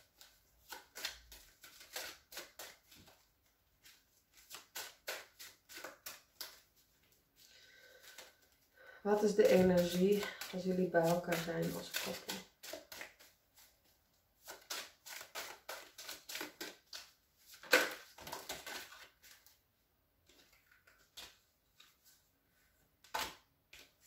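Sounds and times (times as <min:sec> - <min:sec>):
cards being shuffled: 0:00.0 - 0:19.6, 0:20.2 - 0:22.2, 0:23.0 - 0:24.0.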